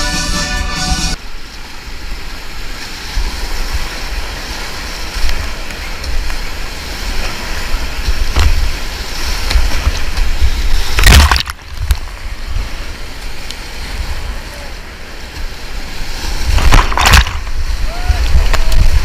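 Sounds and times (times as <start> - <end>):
rushing river water: 0.0 - 19.0
loud water splash: 1.2 - 19.0.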